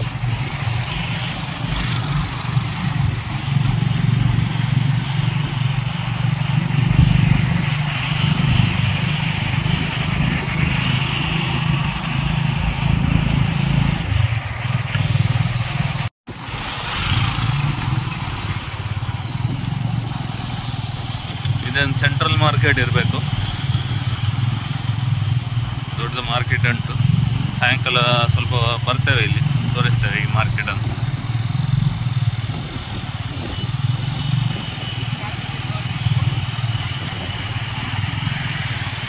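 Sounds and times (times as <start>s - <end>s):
motorcycle engine running: 0.0s - 39.0s
passing motorbike traffic: 0.0s - 39.0s
road noise: 0.0s - 39.0s
wind: 0.0s - 39.0s.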